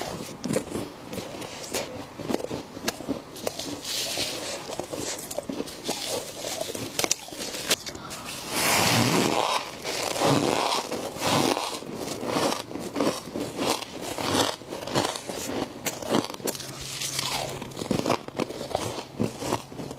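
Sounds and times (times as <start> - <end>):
frost crunched between teeth: 2.9 - 19.7.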